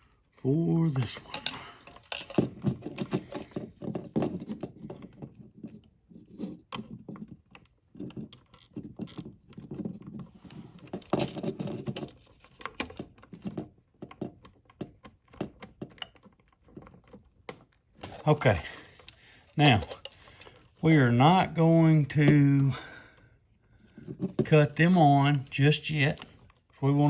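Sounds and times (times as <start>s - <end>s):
hands handling wires: 0.0s - 20.9s, 21.9s - 27.0s.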